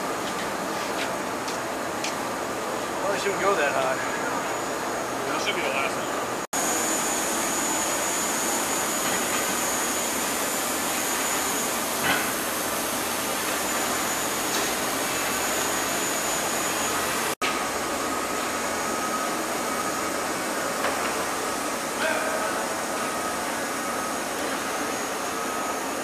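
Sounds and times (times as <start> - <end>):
high whine: 2.6 - 26.0.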